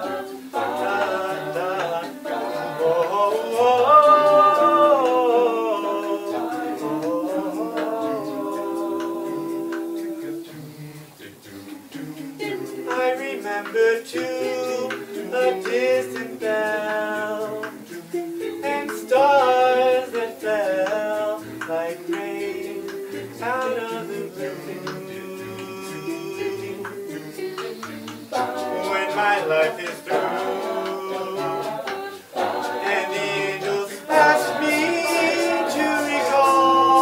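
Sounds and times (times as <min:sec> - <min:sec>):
lead voice singing with vibrato: 0:00.0 - 0:37.0
male a cappella group singing: 0:00.0 - 0:37.0.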